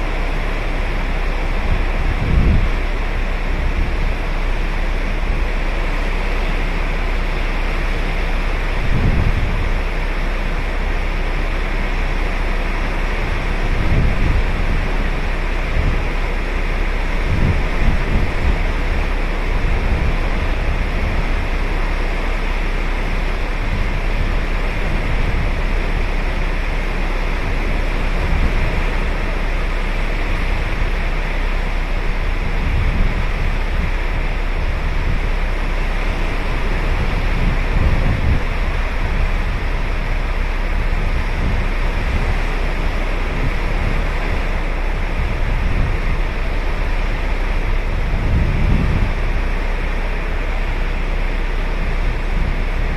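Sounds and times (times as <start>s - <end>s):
deep low rumble: 0.0s - 52.9s
ocean surf breaking on beach: 0.0s - 52.9s.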